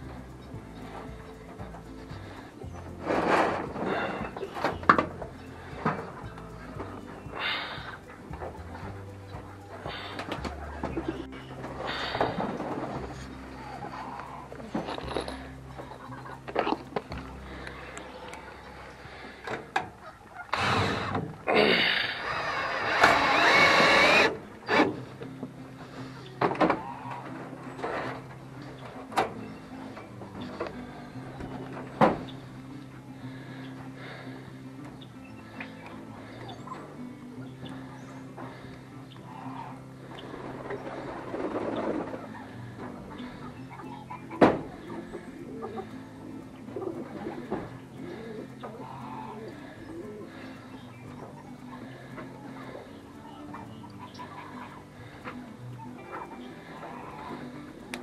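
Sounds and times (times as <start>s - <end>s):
doves cooing: 0.0s - 58.0s
farm bird calling: 0.0s - 58.0s.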